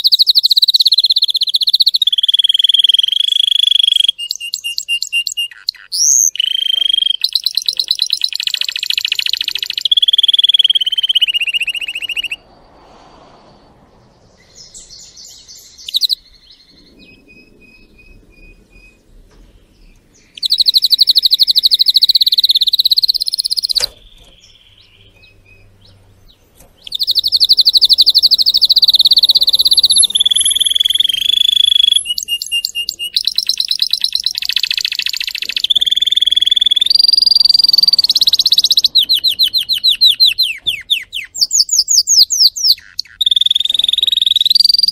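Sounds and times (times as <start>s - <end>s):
canary singing: 0.0s - 12.4s, 14.4s - 19.0s, 19.7s - 44.9s.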